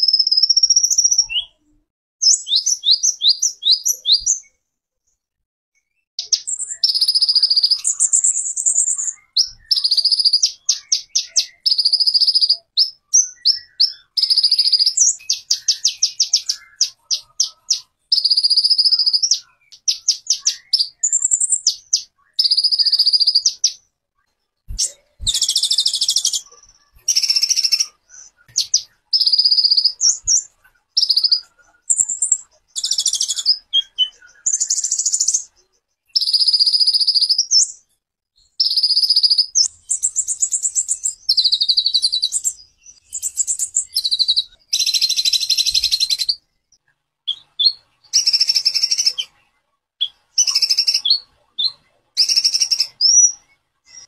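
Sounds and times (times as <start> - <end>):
songbird singing trills: 0.0 - 4.6, 5.8 - 54.0.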